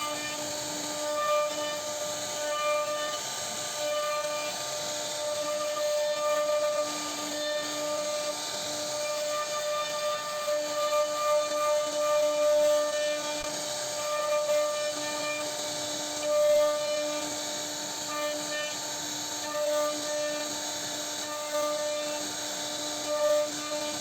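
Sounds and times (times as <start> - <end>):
bit cutting wood: 0.0 - 24.0
router spindle whining: 0.0 - 24.0.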